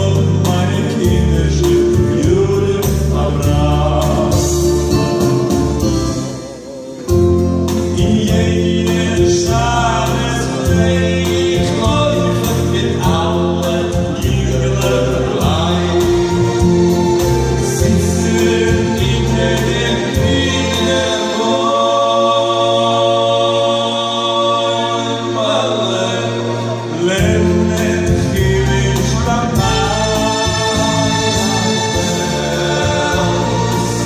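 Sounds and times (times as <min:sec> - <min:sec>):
male choir singing: 0:00.0 - 0:34.0
man singing: 0:00.0 - 0:34.0.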